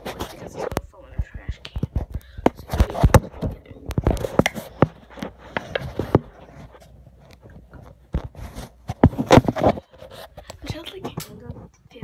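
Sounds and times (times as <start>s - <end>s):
fingers rubbing and tapping phone: 0.0s - 12.0s.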